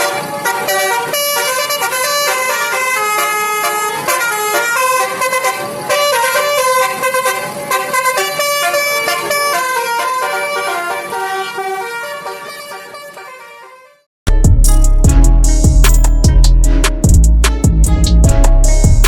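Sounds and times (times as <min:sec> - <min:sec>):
multi-tone bus horn melody: 0:00.0 - 0:14.1, 0:16.5 - 0:19.0.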